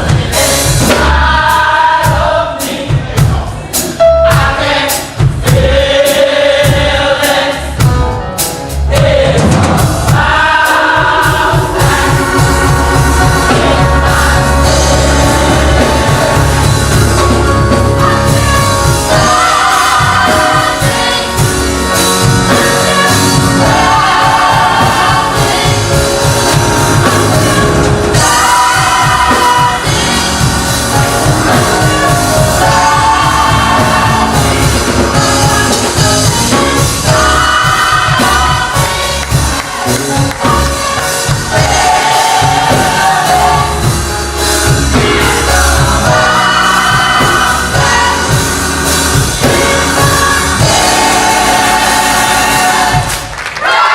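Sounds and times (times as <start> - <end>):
band playing steady beat: 0.0 - 53.9
vocal group singing gospel: 0.0 - 53.9.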